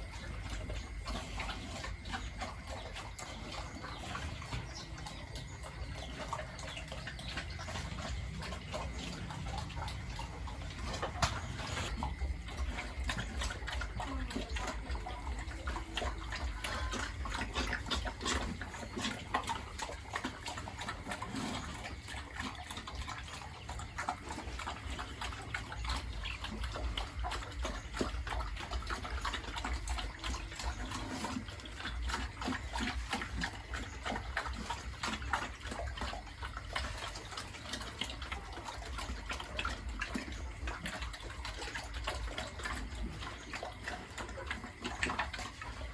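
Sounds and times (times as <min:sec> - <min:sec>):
pigs grunting: 0:00.0 - 0:45.9
water running and splashing: 0:00.0 - 0:45.9.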